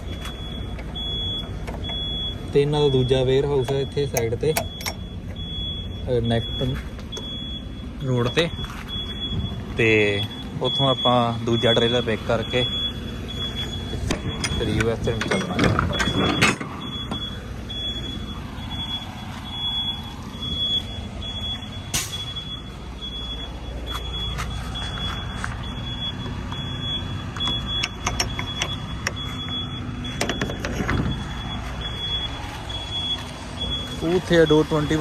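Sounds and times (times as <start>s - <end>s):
backup alarm beeping: 0.0s - 35.0s
diesel engines idling: 0.0s - 35.0s.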